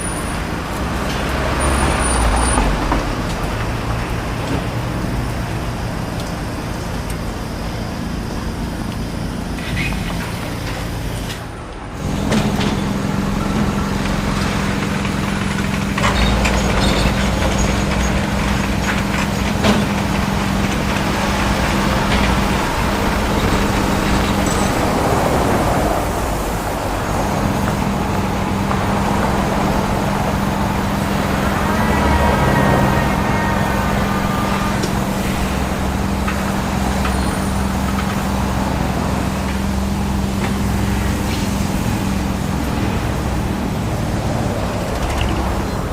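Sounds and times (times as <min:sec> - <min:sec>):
heavy engine rumbling: 0:00.0 - 0:45.9.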